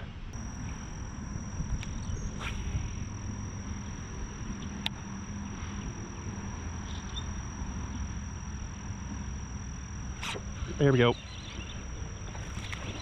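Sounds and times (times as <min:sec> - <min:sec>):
high-pitched insect drone: 0:00.4 - 0:13.0.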